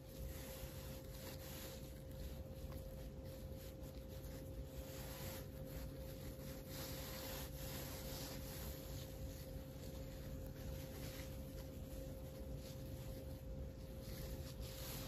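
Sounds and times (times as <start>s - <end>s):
faint steady hum: 0.0s - 15.0s
wipe rubbing on glass screen: 0.0s - 15.0s.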